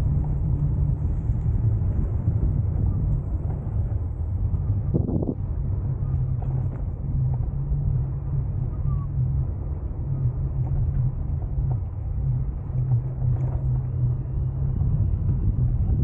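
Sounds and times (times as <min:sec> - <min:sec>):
bicycle tyres rolling on road: 0:00.0 - 0:16.0
wind on microphone: 0:00.0 - 0:16.0.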